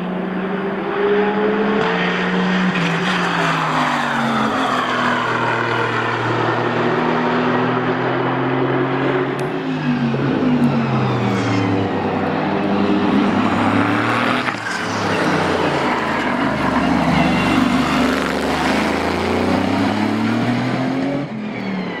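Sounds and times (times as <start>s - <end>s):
racing engine running: 0.1s - 22.0s.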